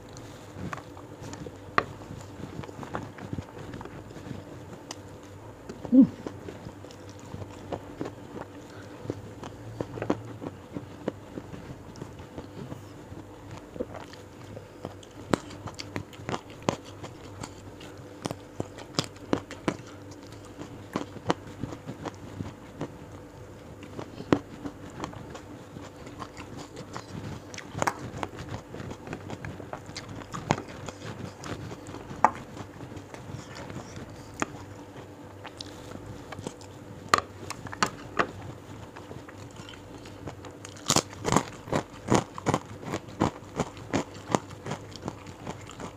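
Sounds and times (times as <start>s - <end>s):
chewing and lip-smacking: 0.0s - 45.9s
faint steady hum: 0.0s - 45.9s.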